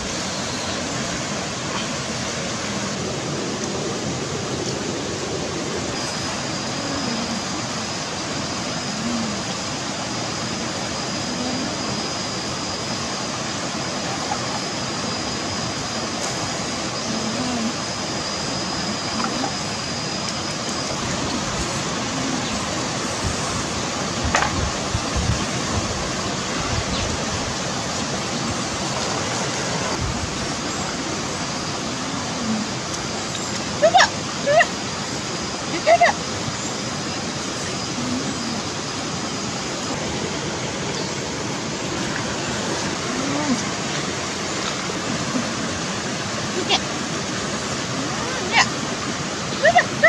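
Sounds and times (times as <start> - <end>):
stream water flowing over rocks: 0.0 - 50.0.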